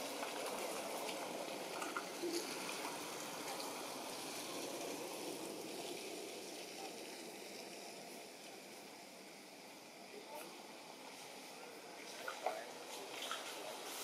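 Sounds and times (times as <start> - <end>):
trickling water hiss: 0.0 - 14.0.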